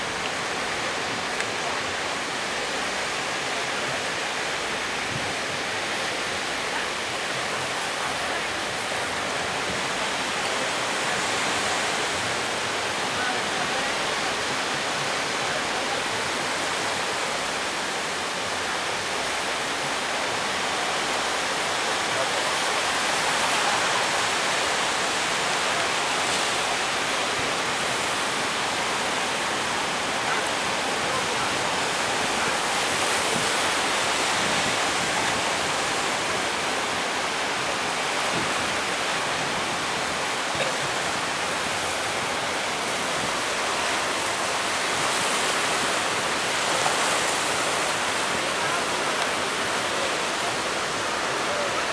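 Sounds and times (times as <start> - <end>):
surf waves breaking on shore: 0.0 - 51.9.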